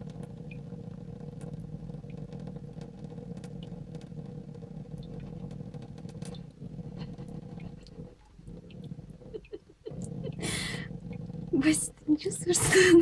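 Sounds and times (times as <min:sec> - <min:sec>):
water dripping: 0:00.0 - 0:13.0
cat purring loudly: 0:00.1 - 0:13.0.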